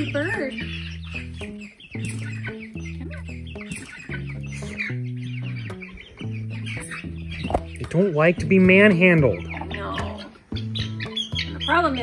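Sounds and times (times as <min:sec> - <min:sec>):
background music: 0:00.0 - 0:12.0
chicks peeping and chirping: 0:00.0 - 0:12.0.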